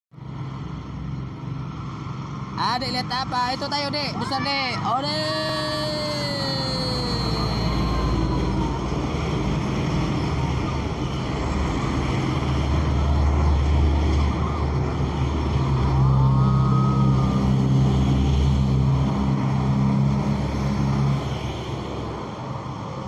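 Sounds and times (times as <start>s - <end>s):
road traffic passing: 0.2s - 23.0s
motorbikes passing: 1.6s - 23.0s.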